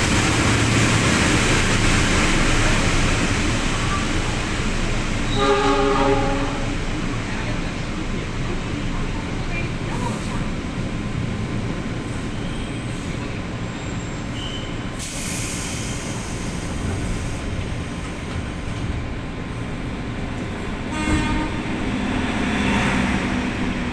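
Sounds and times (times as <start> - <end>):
train rumbling on rails: 0.0 - 23.9.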